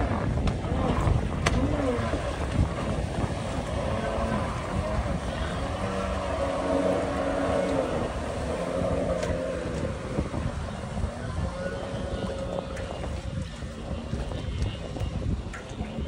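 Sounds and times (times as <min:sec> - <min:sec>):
jet ski engine running: 0:00.0 - 0:16.0
low rumbling noise: 0:00.0 - 0:16.0.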